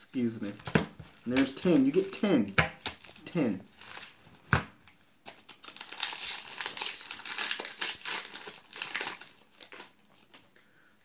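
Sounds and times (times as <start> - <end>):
foil wrapper crinkling and tearing: 0.1 - 10.4.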